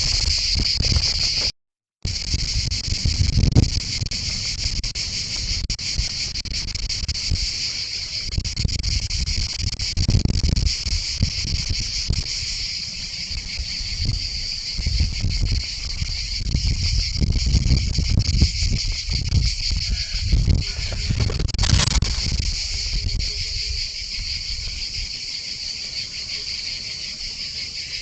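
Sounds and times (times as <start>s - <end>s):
insects chirping: 0.0s - 28.0s
low wind rumble: 0.0s - 28.0s.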